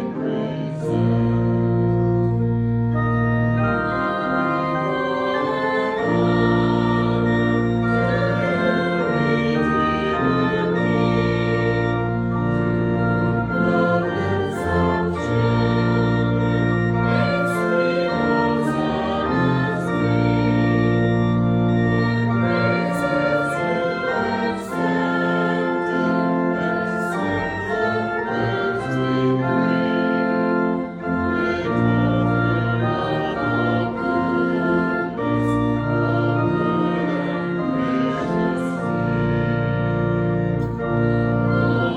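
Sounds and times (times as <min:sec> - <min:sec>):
voices singing: 0:00.0 - 0:01.7, 0:04.0 - 0:12.3, 0:13.2 - 0:21.1, 0:21.8 - 0:30.0, 0:30.8 - 0:39.4, 0:41.4 - 0:41.9
church organ playing a hymn: 0:00.0 - 0:41.9.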